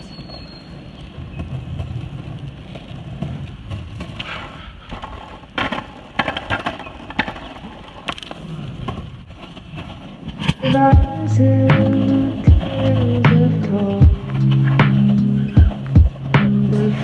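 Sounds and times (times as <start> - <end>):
skateboard clacks: 0.0 - 17.0
skateboard wheels rolling on pavement: 0.0 - 17.0.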